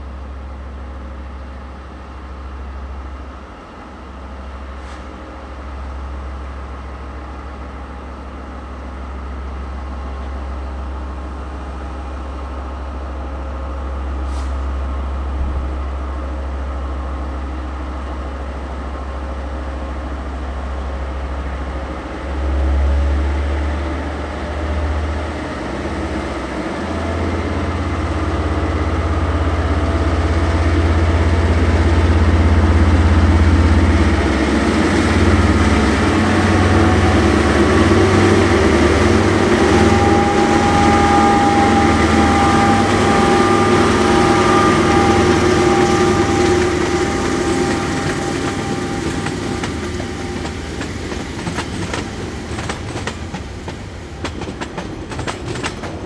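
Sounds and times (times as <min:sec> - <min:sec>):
diesel locomotive engine: 0:00.0 - 0:56.0.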